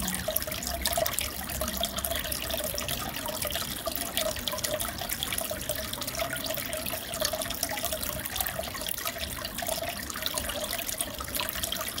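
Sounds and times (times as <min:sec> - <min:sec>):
aquarium water trickling and bubbling: 0:00.0 - 0:12.0
fine crackle of small bubbles: 0:00.0 - 0:12.0.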